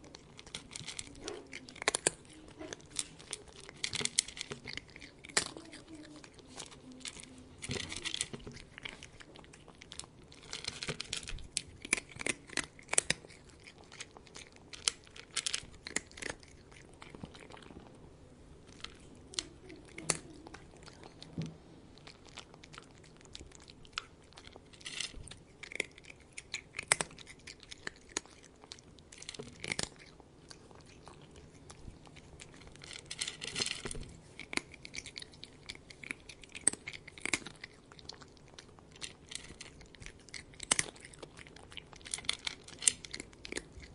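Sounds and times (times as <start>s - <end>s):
cat chewing and crunching food: 0.0s - 43.9s.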